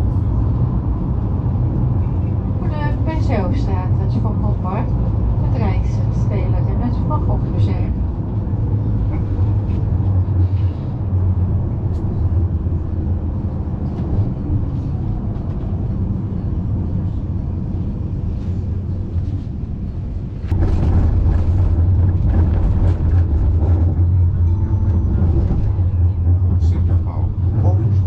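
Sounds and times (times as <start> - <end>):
low motor hum: 0.0 - 28.0
tram wheels rumbling on rails: 0.0 - 28.0.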